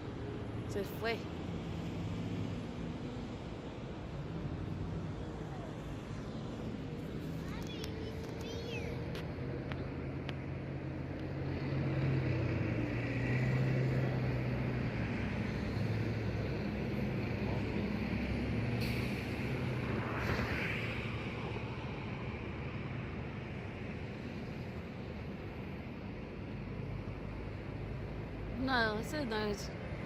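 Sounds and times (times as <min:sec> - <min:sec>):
engine hum: 0:00.0 - 0:30.0
traffic noise: 0:00.0 - 0:30.0.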